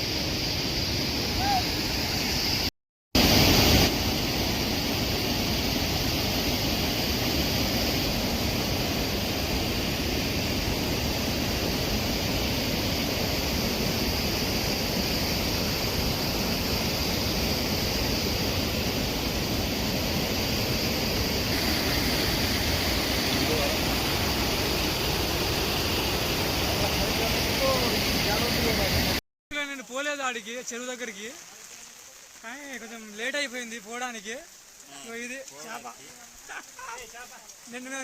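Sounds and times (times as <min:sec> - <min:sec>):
heavy rain: 0:00.0 - 0:38.0
running water: 0:00.0 - 0:38.0.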